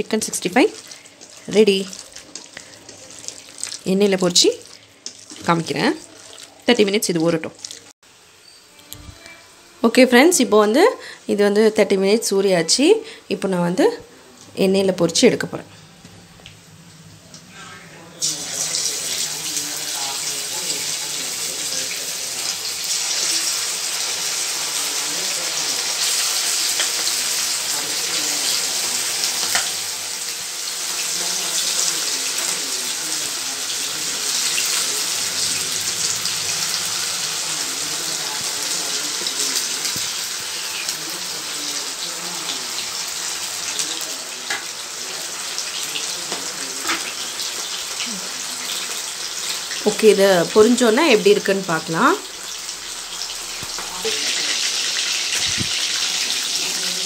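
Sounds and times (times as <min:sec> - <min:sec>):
chicken deep-frying in oil: 0:00.0 - 0:08.0, 0:18.2 - 0:57.0.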